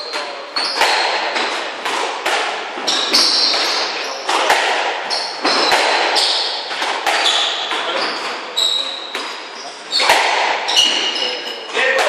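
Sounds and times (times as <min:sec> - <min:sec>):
shoes squeaking on wooden floor: 0:00.0 - 0:12.0
squash ball hitting rackets and walls: 0:00.0 - 0:12.0.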